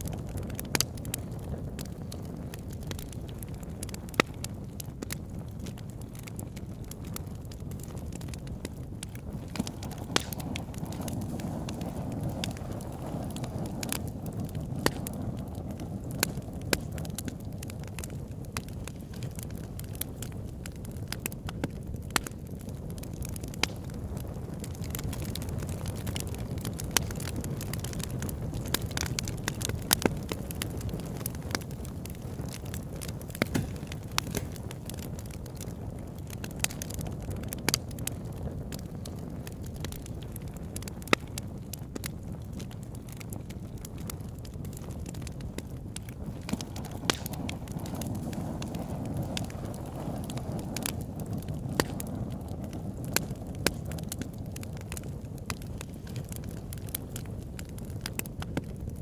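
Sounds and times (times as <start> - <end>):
campfire flames rumbling: 0.0 - 59.0
fire crackling and popping: 0.0 - 59.0.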